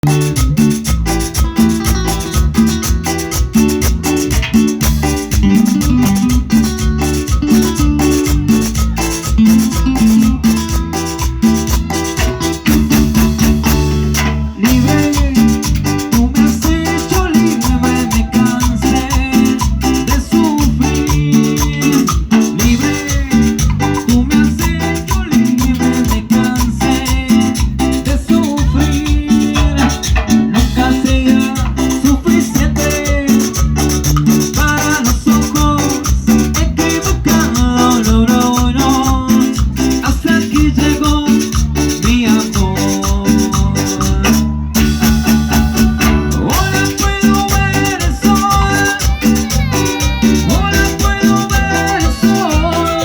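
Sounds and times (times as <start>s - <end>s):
latin dance music: 0.0s - 53.0s.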